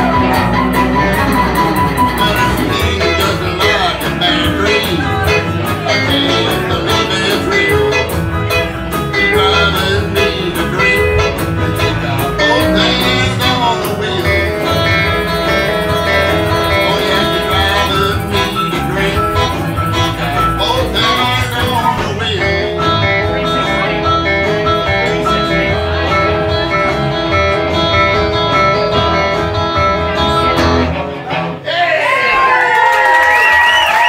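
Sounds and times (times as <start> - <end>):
live country band playing: 0.0 - 34.0.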